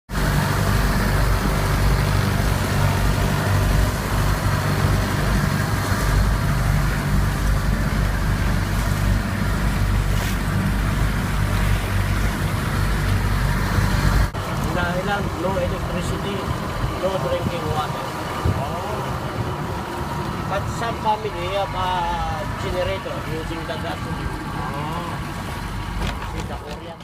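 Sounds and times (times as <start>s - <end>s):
engine running steadily: 0.1s - 27.0s.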